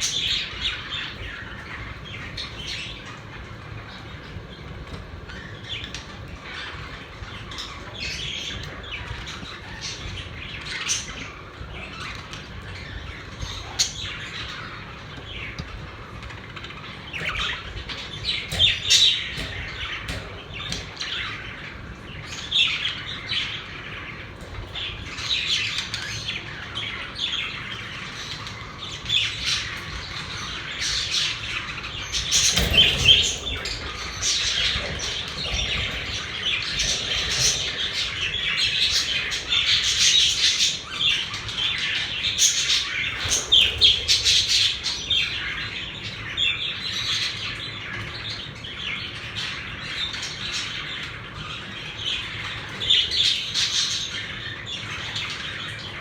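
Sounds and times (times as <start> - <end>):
steady low hum: 0.0 - 47.2
budgerigars chirping and squawking: 0.0 - 56.0.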